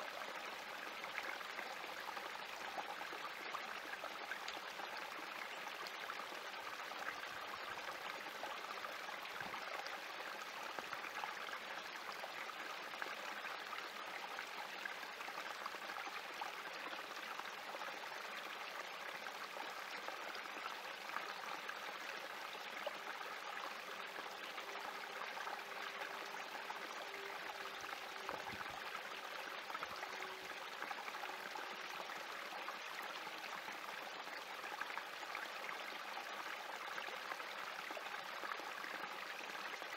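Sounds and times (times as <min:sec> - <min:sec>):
creek trickling over rocks: 0:00.0 - 0:39.9.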